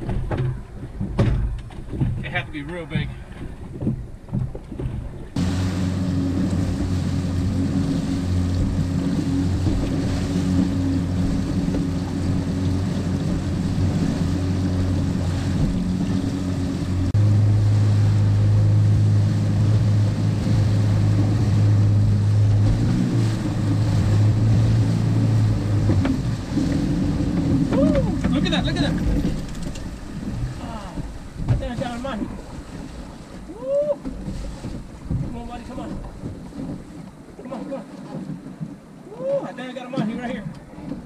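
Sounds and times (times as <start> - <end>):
wind on microphone: 0.0 - 39.6
motorboat engine running: 0.0 - 41.0
water rushing along hull: 0.0 - 41.0.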